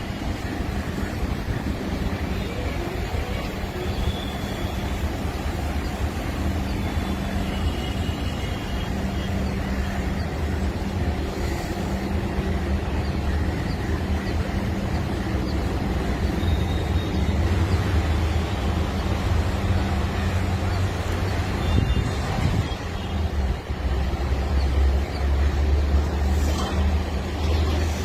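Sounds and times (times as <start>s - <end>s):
electric train rumble: 0.0s - 28.0s.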